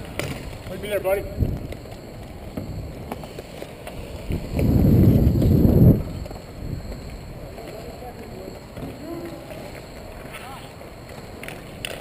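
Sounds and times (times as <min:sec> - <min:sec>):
skate wheels rolling rumble: 0:00.0 - 0:12.0.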